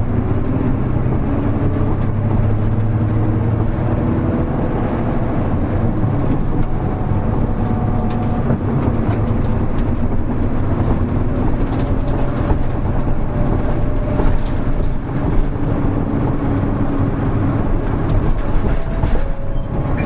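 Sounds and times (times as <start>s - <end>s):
bus diesel engine drone: 0.0s - 20.0s
light rattles and clicks: 0.1s - 20.0s.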